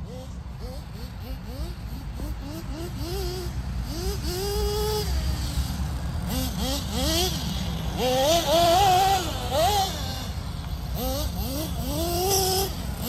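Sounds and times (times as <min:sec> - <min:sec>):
small nitro engine revving: 0:00.0 - 0:13.0.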